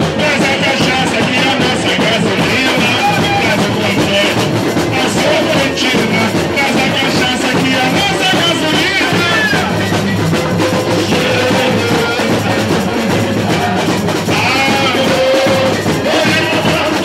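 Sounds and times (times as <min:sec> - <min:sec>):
drums and percussion: 0:00.0 - 0:17.0
people singing: 0:00.0 - 0:17.0.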